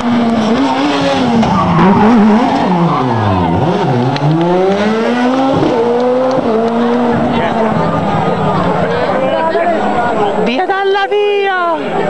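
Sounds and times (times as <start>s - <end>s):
rally car engine revving: 0.0s - 10.3s.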